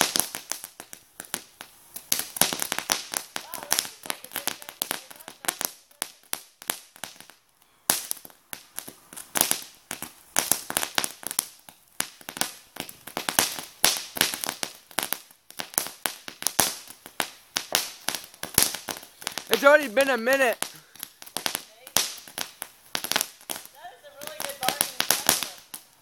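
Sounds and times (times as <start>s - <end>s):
firework crackling: 0.0s - 26.0s.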